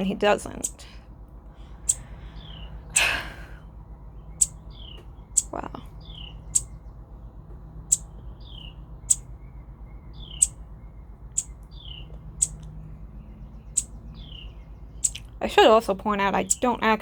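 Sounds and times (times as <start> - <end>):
songbird chipping: 0.0 - 17.0.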